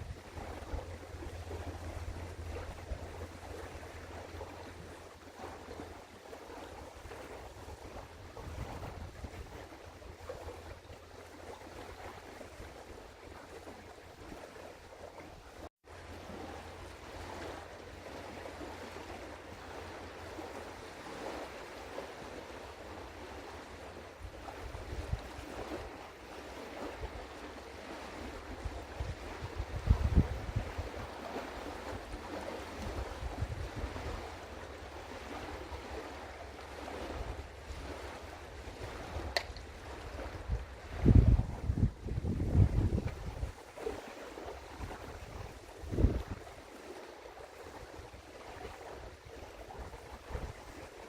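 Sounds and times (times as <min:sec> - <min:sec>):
water noise: 0:00.0 - 0:51.0
wind: 0:00.0 - 0:51.0.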